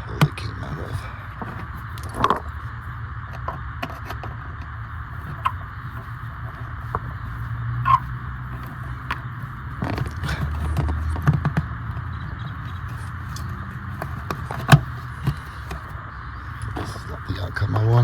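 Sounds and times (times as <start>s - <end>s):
hands handling cable and parts: 0.0s - 17.4s
steady low hum: 0.0s - 18.0s.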